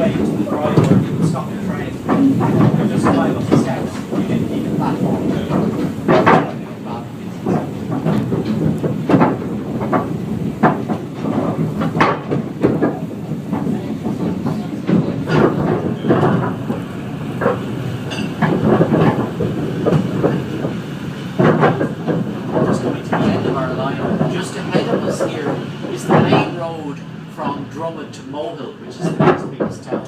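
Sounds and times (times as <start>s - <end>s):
train rumble: 0.0s - 30.0s
wheels clacking and knocking: 0.0s - 30.0s.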